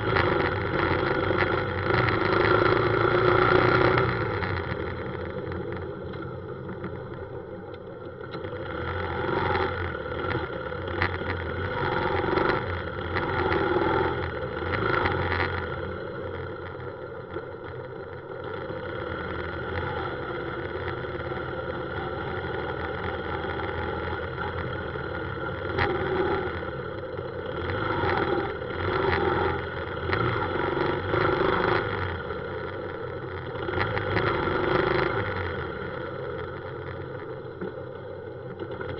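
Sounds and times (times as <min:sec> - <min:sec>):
motorbike engine running: 0:00.0 - 0:38.9
scooters and cars in traffic: 0:00.0 - 0:38.9.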